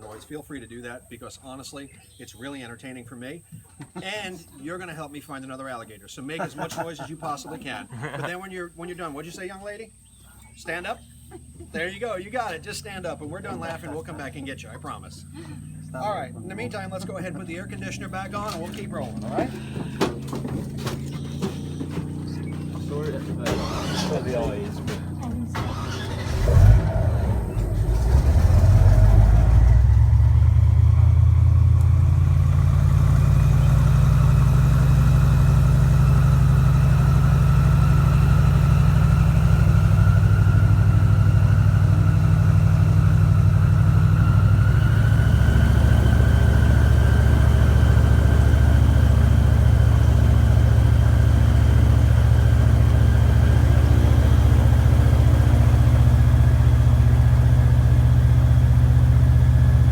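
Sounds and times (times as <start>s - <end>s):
airboat engine and propeller drone: 10.0s - 59.9s.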